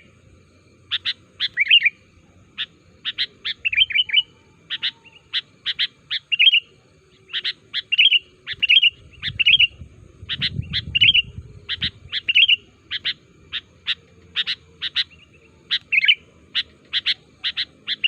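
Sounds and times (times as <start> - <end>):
bulbul chirping: 0.8 - 18.0.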